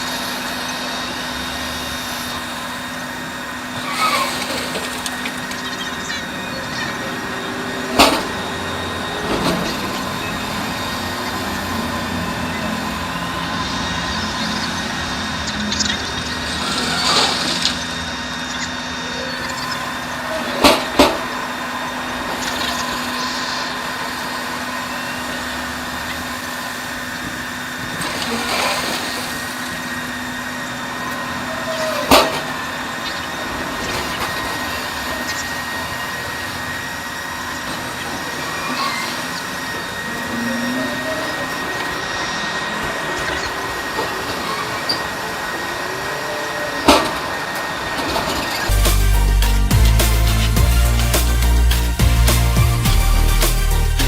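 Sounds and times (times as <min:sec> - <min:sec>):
heavy machinery humming: 0:00.0 - 0:54.0
machine whining tones: 0:00.0 - 0:54.0.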